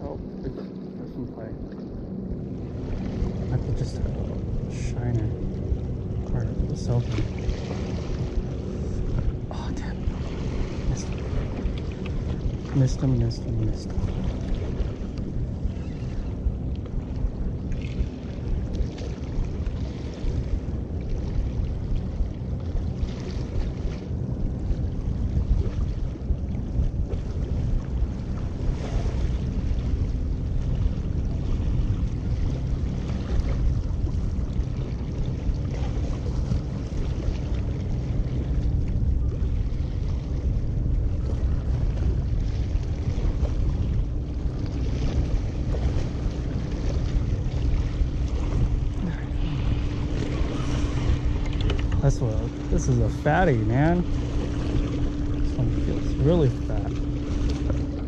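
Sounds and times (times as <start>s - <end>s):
steady low hum: 0.0s - 58.0s
wind buffeting microphone: 0.0s - 58.0s.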